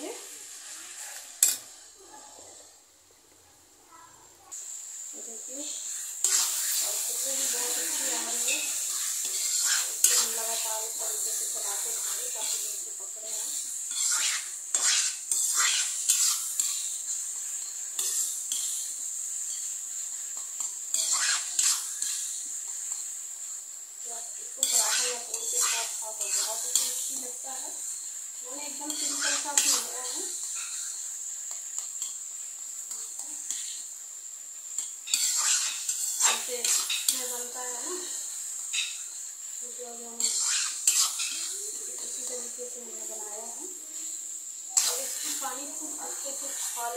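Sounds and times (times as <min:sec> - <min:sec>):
steady high hiss: 0:00.0 - 0:46.9
steady sizzle: 0:00.0 - 0:46.9
metal spatula scraping a pan: 0:00.1 - 0:01.8, 0:05.6 - 0:23.6, 0:24.2 - 0:34.0, 0:34.7 - 0:44.1, 0:44.7 - 0:46.9.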